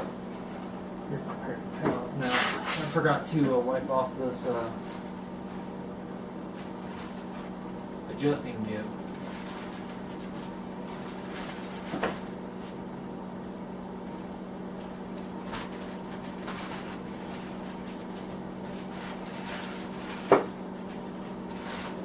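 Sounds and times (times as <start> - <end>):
heater electric hum: 0.0 - 22.0.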